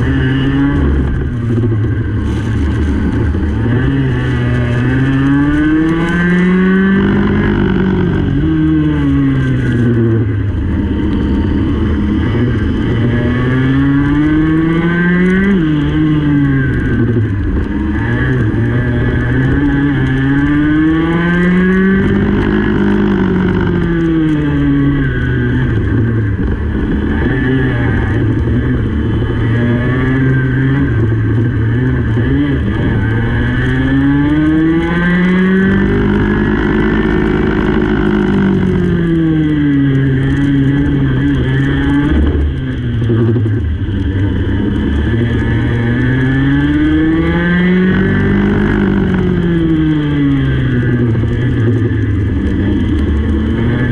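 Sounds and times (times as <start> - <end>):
go-kart engine accelerating: 0.0 - 53.9.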